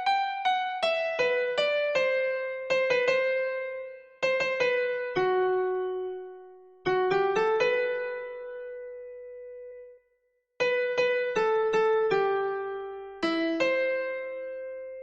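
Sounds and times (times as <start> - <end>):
electric piano melody: 0.0 - 10.0, 10.6 - 15.0.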